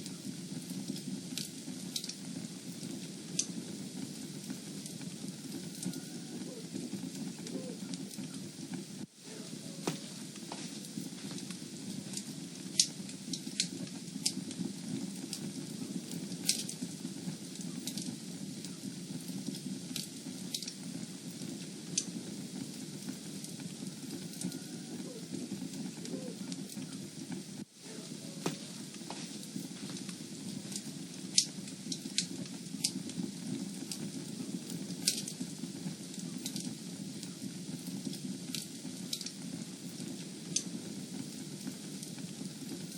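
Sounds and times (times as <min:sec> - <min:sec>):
fire crackling: 0:00.0 - 0:42.9
fire rushing: 0:00.0 - 0:42.9
sharp pops of fire: 0:00.0 - 0:42.9.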